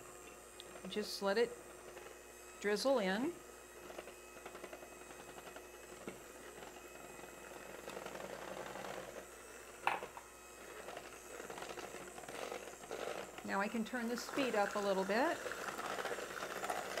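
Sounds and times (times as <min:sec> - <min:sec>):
electric hand mixer running: 0:00.0 - 0:17.0.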